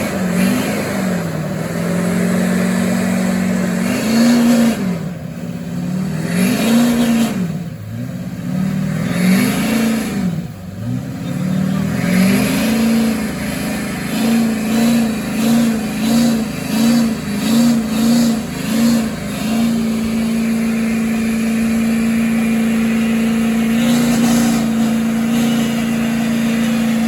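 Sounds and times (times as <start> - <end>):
engine revving: 0.0 - 27.0.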